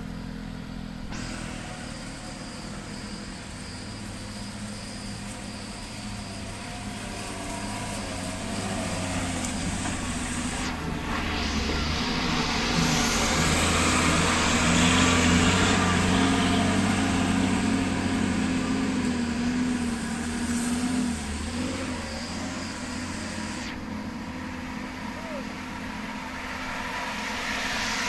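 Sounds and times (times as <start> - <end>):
heavy vehicle engine under load: 0.0 - 28.0
tyre and road noise: 0.0 - 28.0.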